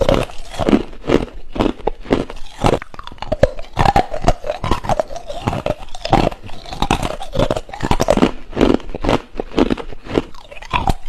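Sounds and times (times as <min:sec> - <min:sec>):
ice crunched between teeth: 0:00.0 - 0:11.0.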